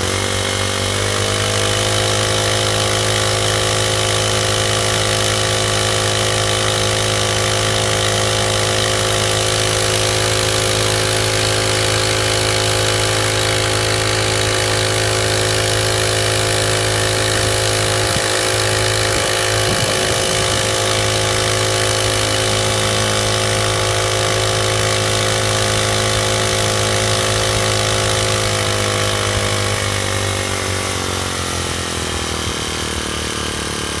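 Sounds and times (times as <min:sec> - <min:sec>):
small outboard engine running: 0:00.0 - 0:34.0.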